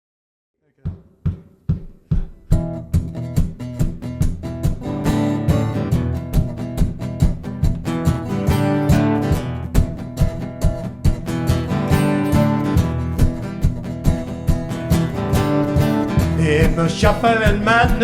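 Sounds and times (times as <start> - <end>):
guitars strumming chords: 2.5 - 18.0.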